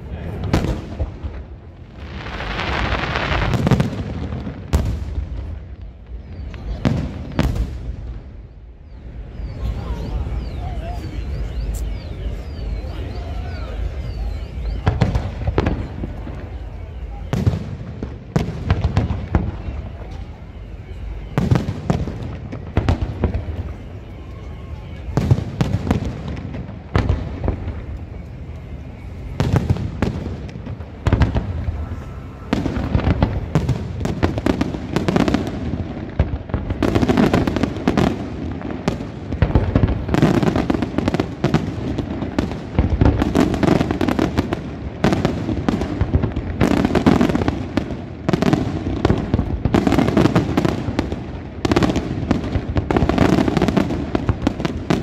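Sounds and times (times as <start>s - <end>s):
fireworks bangs: 0.0s - 55.0s
fireworks crackle: 0.0s - 55.0s.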